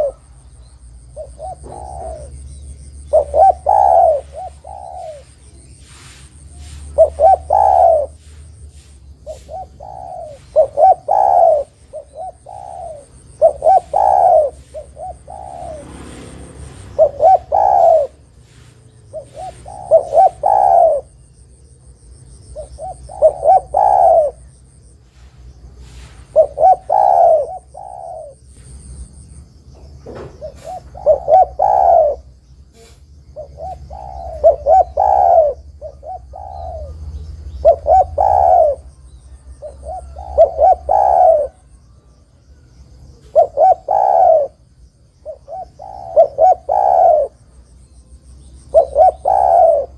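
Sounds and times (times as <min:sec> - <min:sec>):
dove cooing: 0:00.0 - 0:21.5, 0:22.3 - 0:29.0, 0:29.8 - 0:47.5, 0:48.1 - 0:49.9.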